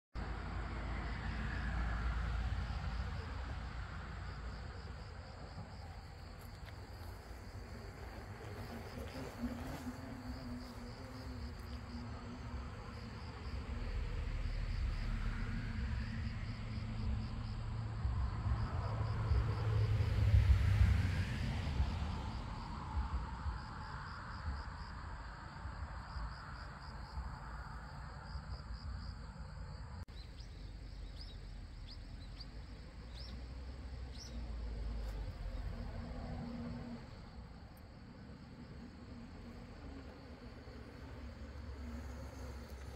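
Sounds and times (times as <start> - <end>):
insects chirping: 0.2 - 42.9
low outdoor rumble: 0.2 - 42.9.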